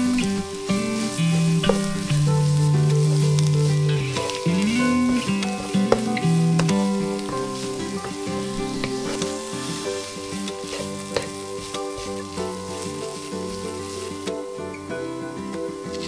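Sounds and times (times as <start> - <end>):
wooden spatula scraping pan: 0.0 - 14.2
instrumental background music: 0.0 - 16.0
vegetables sizzling in frying pan: 0.0 - 16.0.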